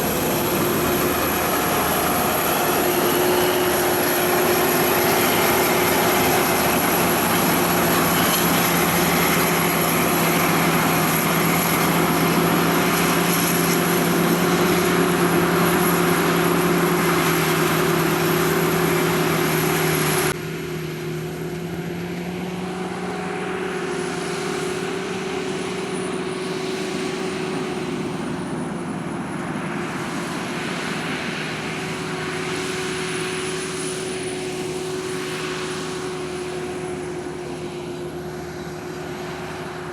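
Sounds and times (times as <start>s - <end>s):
combine harvester engine drone: 0.0s - 39.9s
high thin whine: 0.0s - 39.9s.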